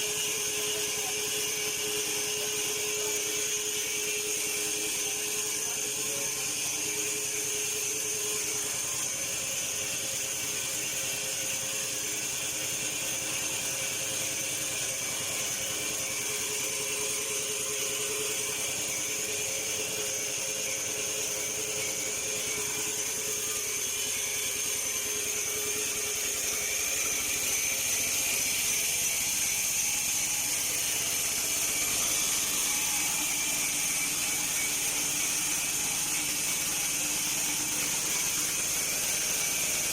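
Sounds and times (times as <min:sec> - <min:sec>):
bandsaw mill sawing log: 0:00.0 - 0:39.9.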